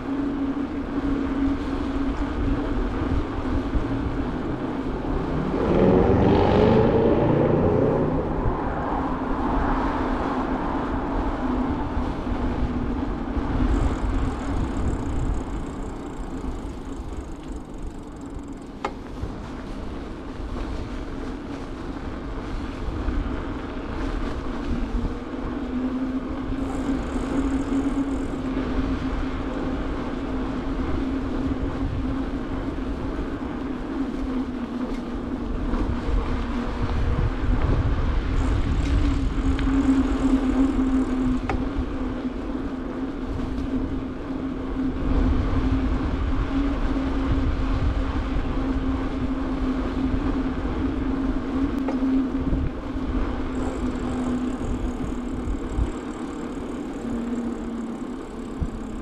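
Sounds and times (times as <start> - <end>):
bike road noise: 0.0 - 59.0
hum: 0.0 - 59.0
wind rumble on microphone: 0.0 - 59.0.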